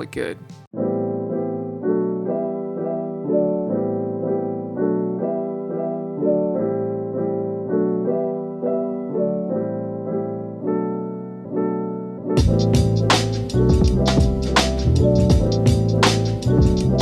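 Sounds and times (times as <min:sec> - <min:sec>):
electric piano chords: 0:00.0 - 0:17.0.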